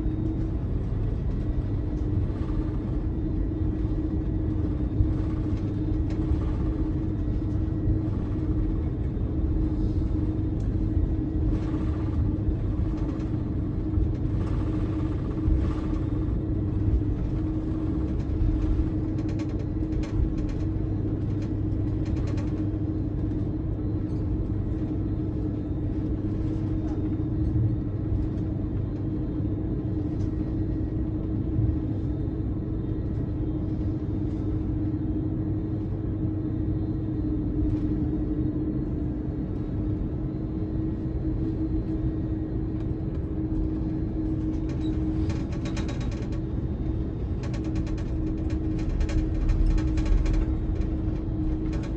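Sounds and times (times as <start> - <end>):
airliner cabin engine rumble: 0.0 - 51.9
constant hum: 0.0 - 51.9.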